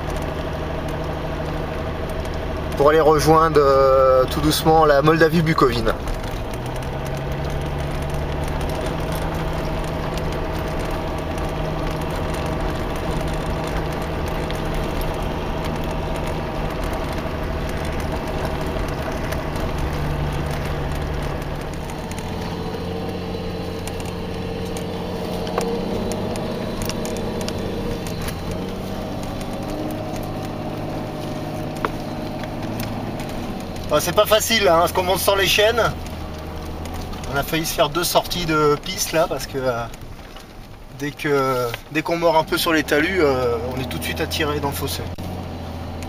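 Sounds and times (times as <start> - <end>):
diesel engine running inside cab: 0.0 - 46.0.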